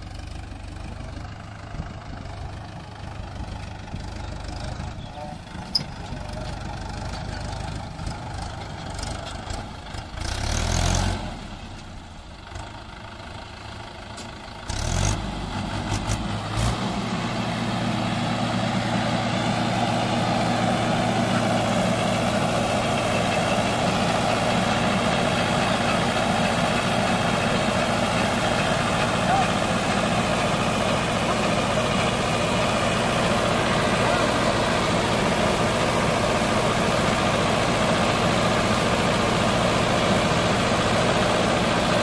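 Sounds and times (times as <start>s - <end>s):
tractor diesel engine idling: 0.0s - 42.0s.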